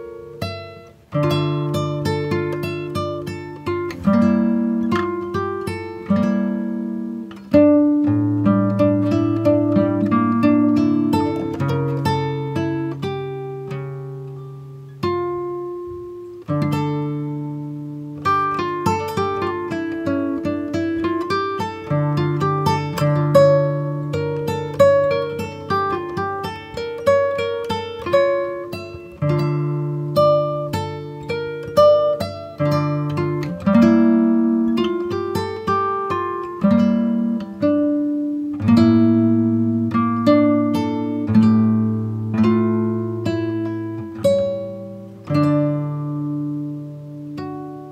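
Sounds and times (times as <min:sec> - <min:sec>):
acoustic guitar music: 0:00.0 - 0:47.9.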